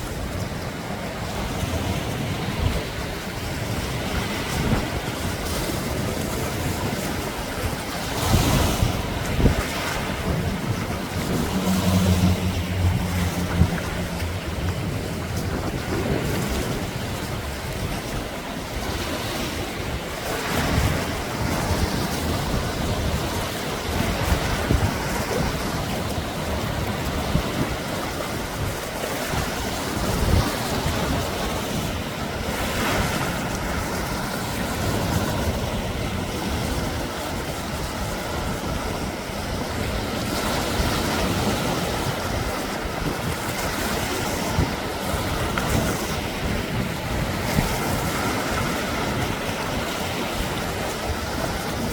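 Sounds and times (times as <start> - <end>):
sea waves washing onto beach: 0.0 - 51.9
wind buffeting microphone: 0.0 - 51.9.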